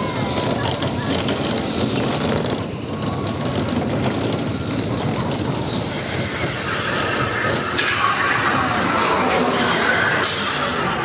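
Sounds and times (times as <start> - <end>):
roller coaster wheels rumbling: 0.0 - 11.0
wind rushing past microphone: 0.0 - 11.0.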